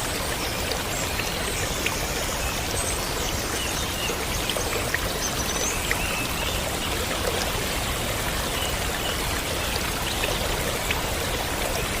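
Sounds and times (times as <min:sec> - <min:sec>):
small waterfall pouring: 0:00.0 - 0:12.0
water drips and splashes: 0:00.0 - 0:12.0.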